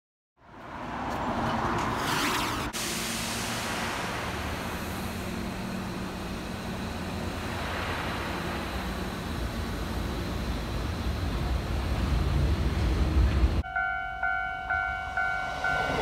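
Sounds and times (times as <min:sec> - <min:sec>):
train rumbling past: 0:02.8 - 0:16.0.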